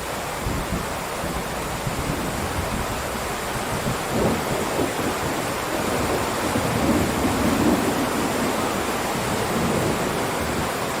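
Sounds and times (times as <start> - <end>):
heavy rain downpour: 0.0 - 11.0.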